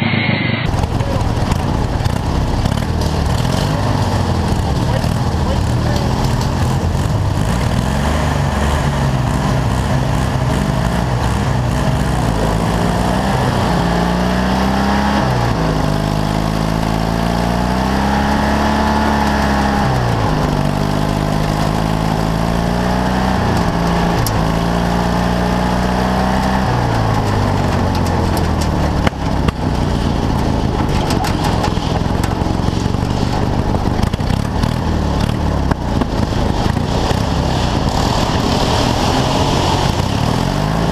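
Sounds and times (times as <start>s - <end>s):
lawn tractor engines revving: 0.4s - 40.9s.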